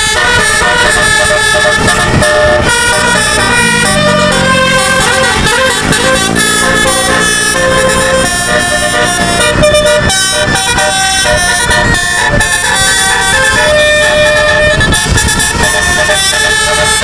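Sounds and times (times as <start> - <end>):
musical bus air horn tune: 0.0 - 17.0.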